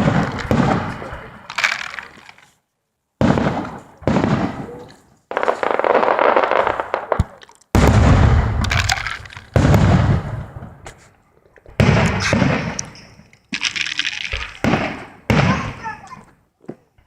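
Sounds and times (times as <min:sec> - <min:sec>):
fireworks bangs with crackle: 0:00.0 - 0:02.2, 0:03.2 - 0:11.0, 0:11.7 - 0:16.2.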